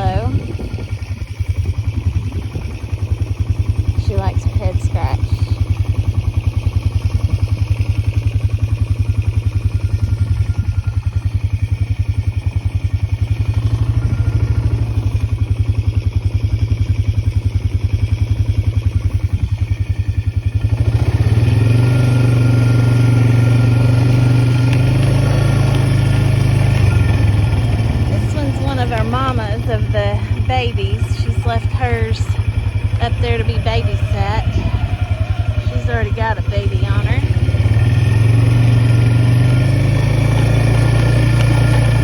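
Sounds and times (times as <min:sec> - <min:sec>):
vehicle engine idling and revving: 0:00.0 - 0:42.0.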